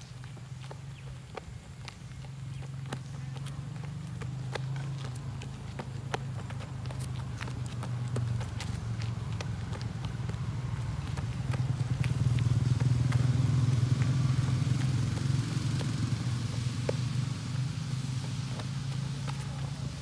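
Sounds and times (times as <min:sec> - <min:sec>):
footsteps on wet asphalt: 0:00.0 - 0:20.0
low engine hum: 0:00.0 - 0:20.0.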